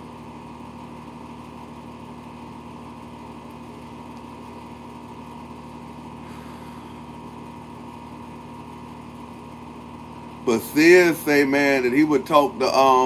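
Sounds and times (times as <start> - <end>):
machine droning: 0.0 - 13.0.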